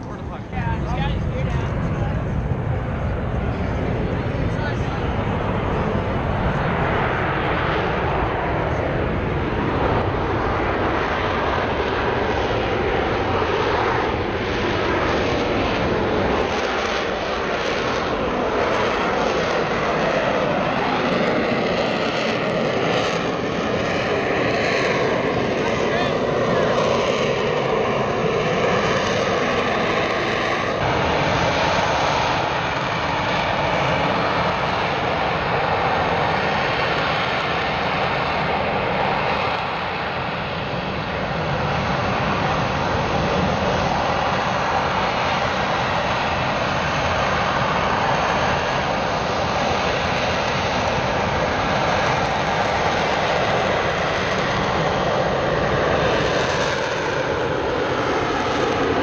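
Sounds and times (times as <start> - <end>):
falling whine: 0.0 - 59.0
jet engine noise: 0.0 - 59.0.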